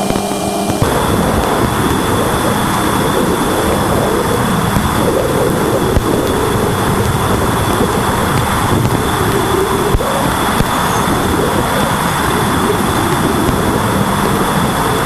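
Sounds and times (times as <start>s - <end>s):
rushing static: 0.0s - 15.0s
sharp clicks: 0.0s - 15.0s
thin high whine: 0.0s - 15.0s.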